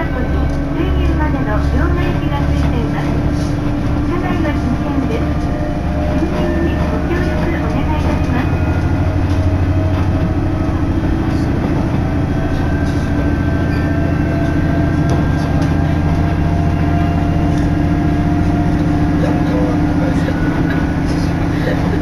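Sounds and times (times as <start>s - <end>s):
diesel engine drone: 0.0s - 22.0s
wheels on rails: 0.0s - 22.0s.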